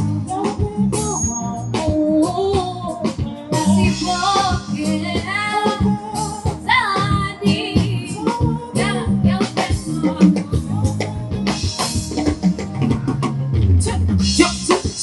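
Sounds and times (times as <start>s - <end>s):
woman singing: 0.0s - 12.2s
amplified music with bass and drums: 0.0s - 15.0s.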